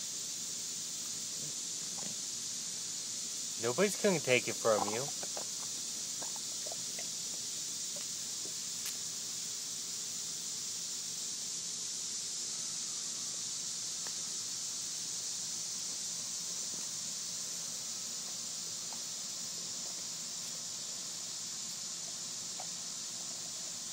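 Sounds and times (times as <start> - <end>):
steady high hiss: 0.0 - 23.9.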